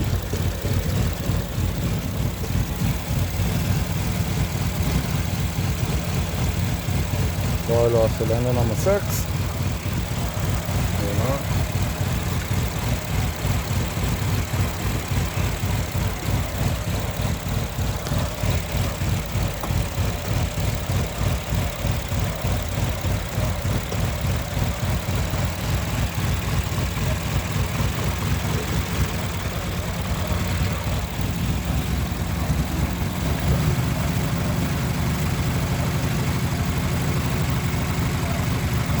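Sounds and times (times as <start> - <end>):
car engine idling roughly: 0.0 - 39.0.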